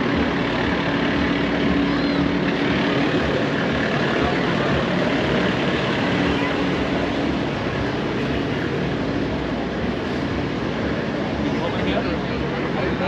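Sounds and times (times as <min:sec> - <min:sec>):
crowd murmur: 0:00.0 - 0:13.0
mechanical drone: 0:00.0 - 0:13.0.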